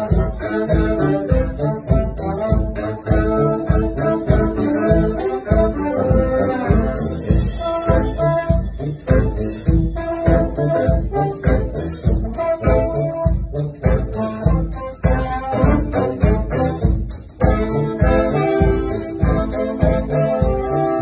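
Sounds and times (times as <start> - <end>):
steady low beat: 0.0 - 21.0
trombone and saxophones: 0.0 - 21.0.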